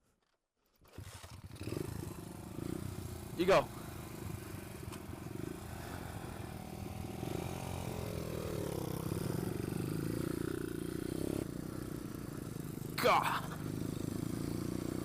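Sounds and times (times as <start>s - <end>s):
pit bike engine revving: 1.0s - 15.0s.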